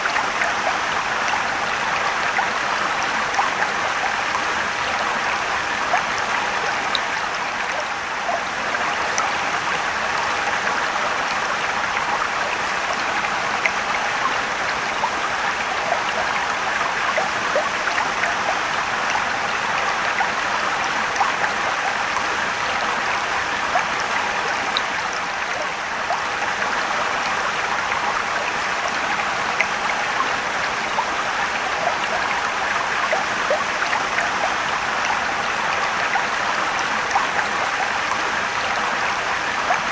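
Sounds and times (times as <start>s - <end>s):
water splashes and drips: 0.0s - 39.9s.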